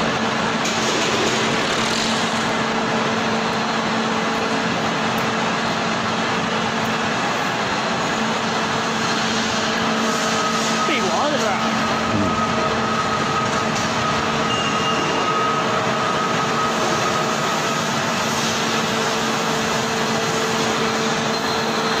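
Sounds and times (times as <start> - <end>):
excavator machine hum and whine: 0.0 - 22.0.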